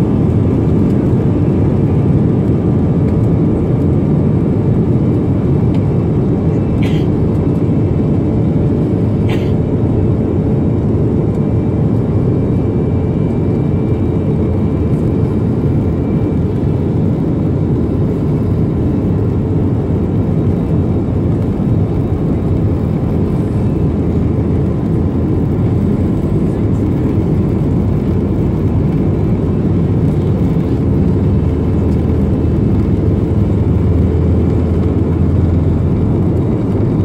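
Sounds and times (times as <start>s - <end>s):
jet engines rumbling: 0.0s - 37.0s
plane rolling on runway: 0.0s - 37.0s.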